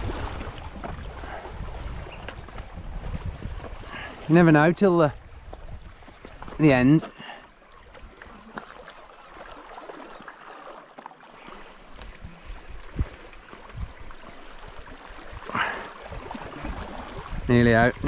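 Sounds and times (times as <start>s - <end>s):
sea water washing at shoreline: 0.0s - 18.0s.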